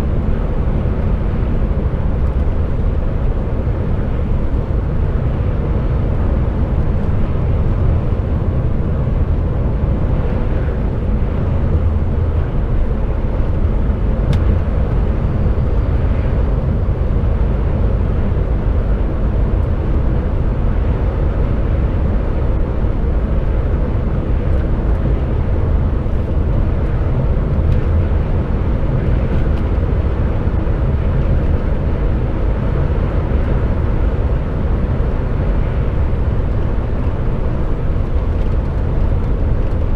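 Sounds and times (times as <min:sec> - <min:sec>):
lorry diesel engine and road noise: 0:00.0 - 0:39.9.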